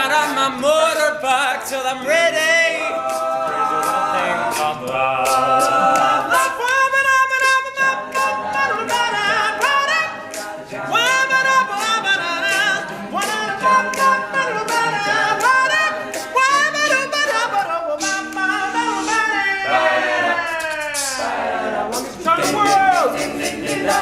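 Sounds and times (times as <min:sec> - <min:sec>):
male group singing in harmony: 0:00.0 - 0:24.0
vocal percussion beat: 0:00.0 - 0:24.0.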